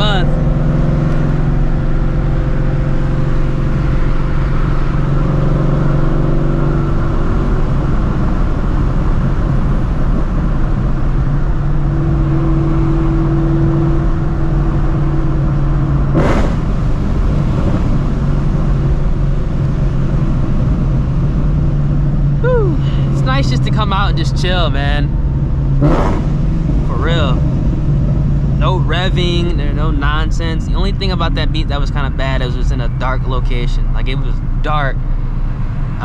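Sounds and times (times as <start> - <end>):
car engine cruising: 0.0 - 36.0.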